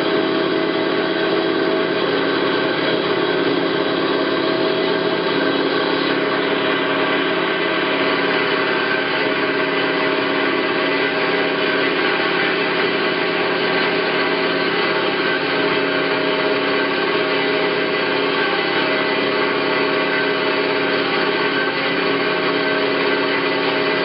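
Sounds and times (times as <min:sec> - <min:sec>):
bandsaw machine hum: 0:00.0 - 0:24.0.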